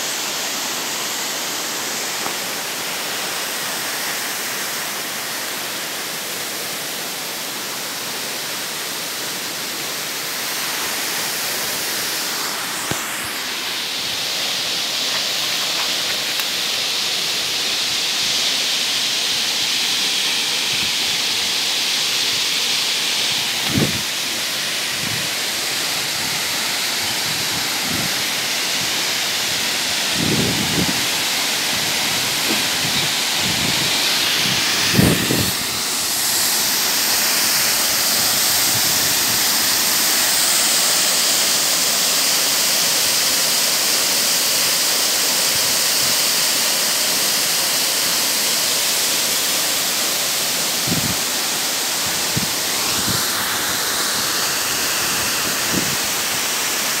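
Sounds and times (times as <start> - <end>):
waterfall rushing into a pool: 0.0 - 57.0.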